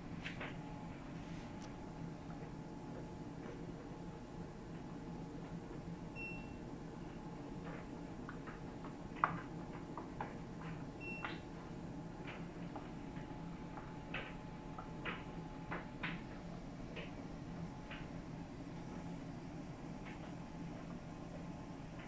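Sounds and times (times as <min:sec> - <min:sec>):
clothes dryer humming: 0:00.0 - 0:22.0.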